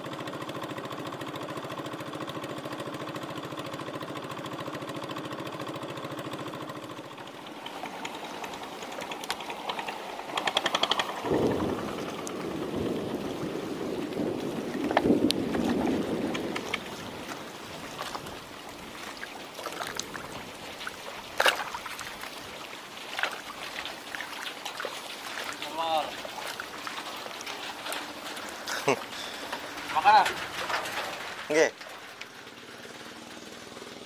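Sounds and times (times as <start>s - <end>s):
small boat engine running: 0.0s - 34.0s
water sloshing and splashing: 0.2s - 34.0s.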